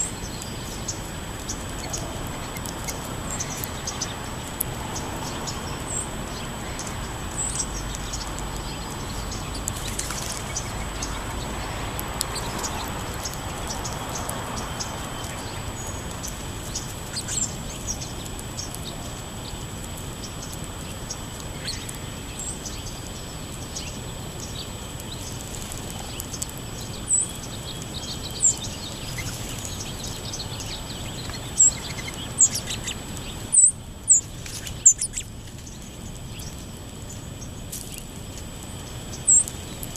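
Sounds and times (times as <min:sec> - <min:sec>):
songbirds chirping: 0:00.0 - 0:39.9
steady background noise: 0:00.0 - 0:39.9.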